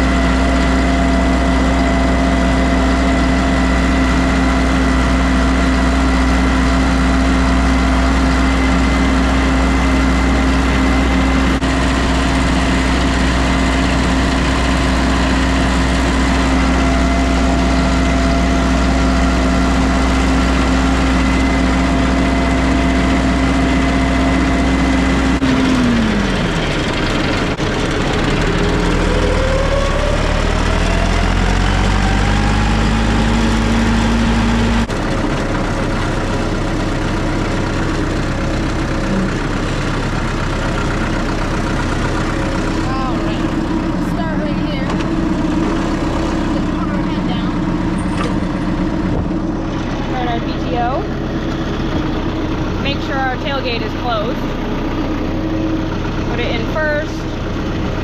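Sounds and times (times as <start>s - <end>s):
farm machine engine running: 0.0s - 58.0s.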